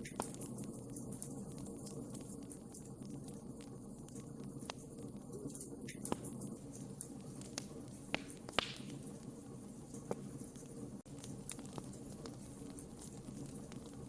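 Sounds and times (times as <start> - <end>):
low rush of flames: 0.0 - 14.0
wood fire crackling and popping: 0.0 - 14.0.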